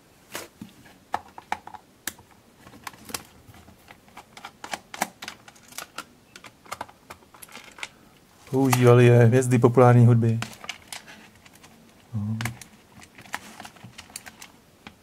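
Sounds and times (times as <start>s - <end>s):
plastic case being handled: 0.3s - 9.0s, 10.3s - 15.0s.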